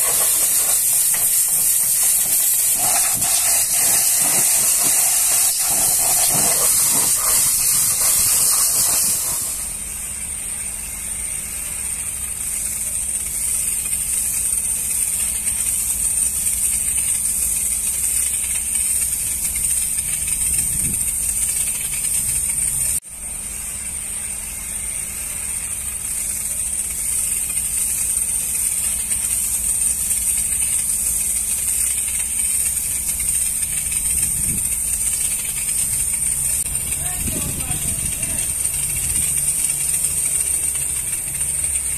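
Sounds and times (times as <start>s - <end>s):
pressure washer spraying water: 0.0s - 41.9s.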